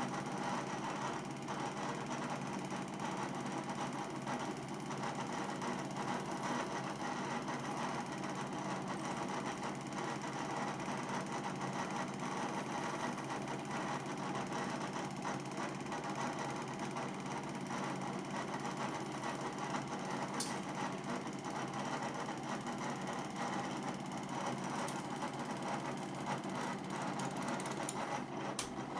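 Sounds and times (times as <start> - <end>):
film projector clattering: 0.0 - 28.9.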